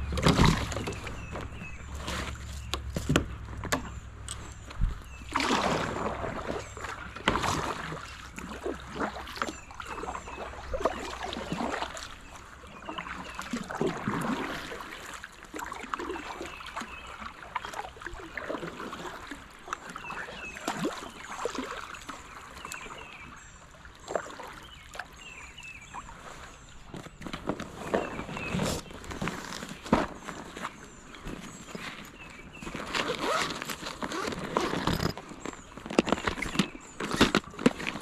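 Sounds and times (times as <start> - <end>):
paddle splashing in water: 0.0 - 38.0.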